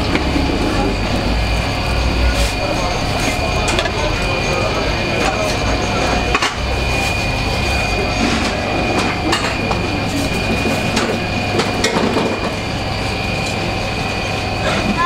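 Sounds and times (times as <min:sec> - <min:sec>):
rotisserie oven humming: 0:00.0 - 0:15.0.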